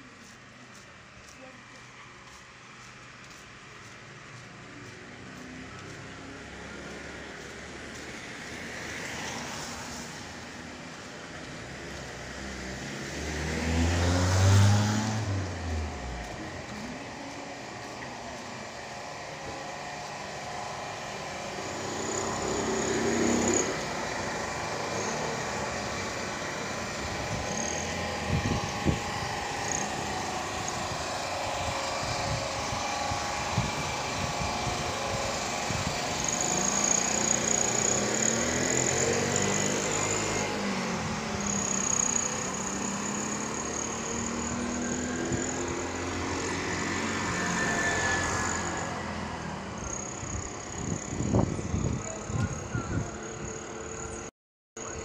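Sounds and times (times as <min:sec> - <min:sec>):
road noise: 0:00.0 - 0:55.0
small vehicle engine running: 0:00.0 - 0:55.0.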